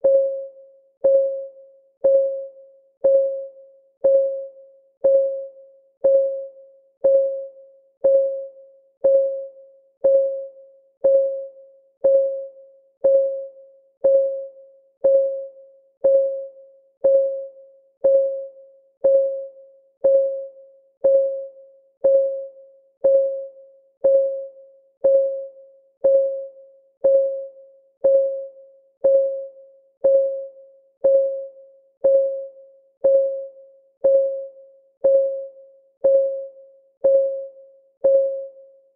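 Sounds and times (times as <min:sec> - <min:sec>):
timer ticking: 0:01.0 - 0:38.6.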